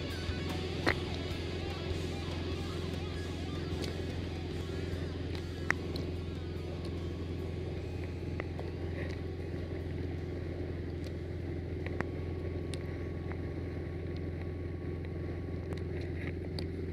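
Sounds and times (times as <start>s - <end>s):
boat engine droning: 0.0s - 16.9s.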